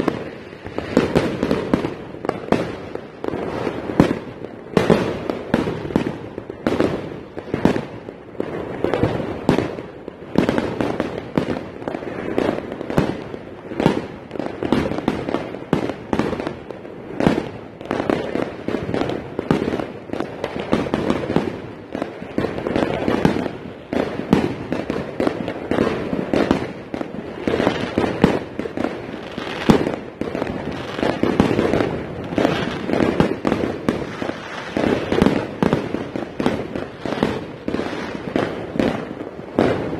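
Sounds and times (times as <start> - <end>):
fireworks banging: 0.0 - 39.9.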